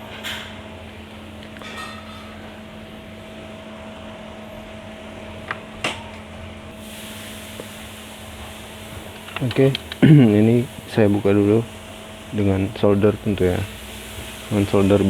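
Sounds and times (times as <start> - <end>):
electrical hum with fan noise: 0.0 - 15.0.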